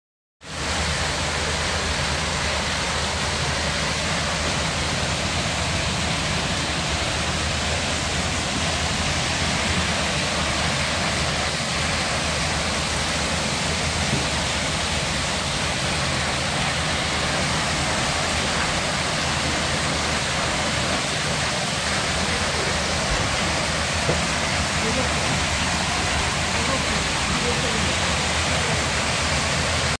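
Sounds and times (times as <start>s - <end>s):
water pouring into pool: 0.5s - 30.0s.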